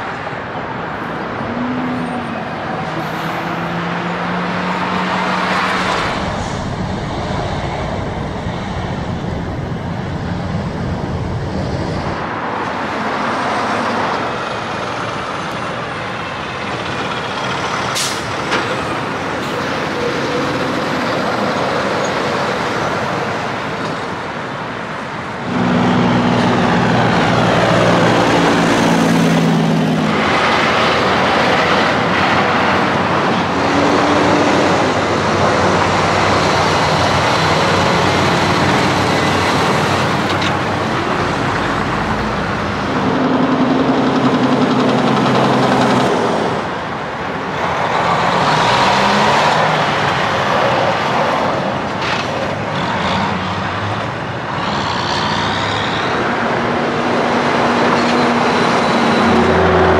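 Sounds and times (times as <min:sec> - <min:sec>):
diesel truck engine passing: 0:00.0 - 0:59.9
trucks driving past: 0:00.0 - 0:59.9.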